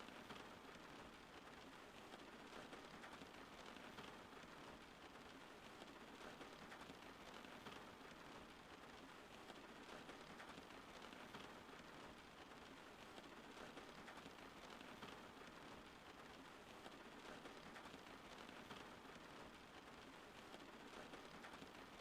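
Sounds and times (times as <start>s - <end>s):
faint rainfall: 0.0s - 22.0s.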